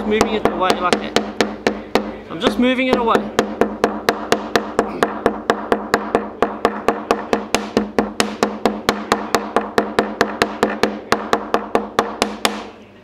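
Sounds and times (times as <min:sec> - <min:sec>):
hammer tapping squid on cutting board: 0:00.0 - 0:12.7.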